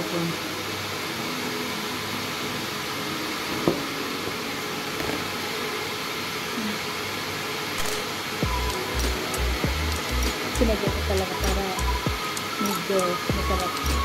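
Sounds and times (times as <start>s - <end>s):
electric fan humming: 0.0s - 14.0s.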